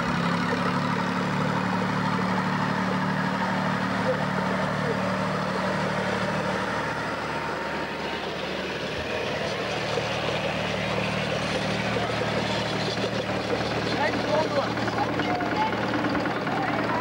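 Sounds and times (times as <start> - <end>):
tractor engine passing: 0.0 - 17.0
van engine passing: 0.0 - 17.0.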